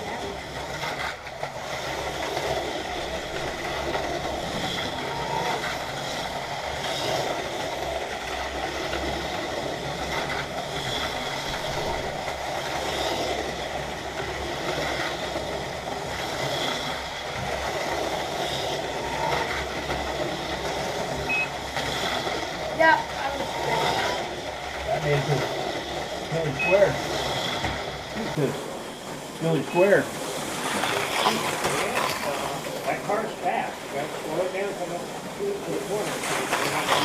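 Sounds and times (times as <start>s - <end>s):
slot cars running on track: 0.0s - 37.0s
small electric motors whining: 0.0s - 37.0s.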